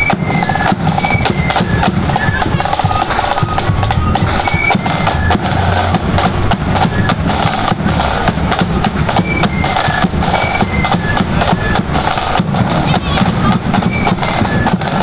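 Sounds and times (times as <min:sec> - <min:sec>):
bass drum beat: 0:00.0 - 0:15.0
flute melody: 0:00.0 - 0:15.0
snare drumming: 0:00.0 - 0:15.0.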